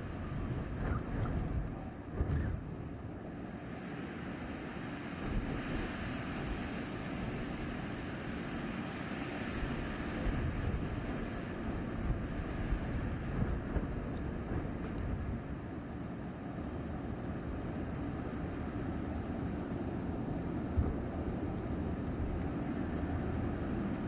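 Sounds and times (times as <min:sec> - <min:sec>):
blizzard wind blowing: 0:00.0 - 0:24.0.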